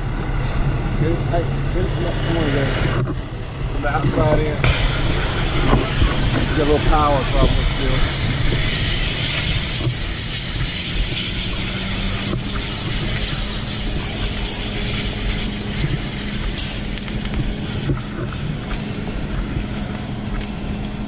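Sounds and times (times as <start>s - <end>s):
fire engine pump droning: 0.0s - 21.0s
water hissing from hoses: 0.4s - 3.4s, 4.3s - 21.0s.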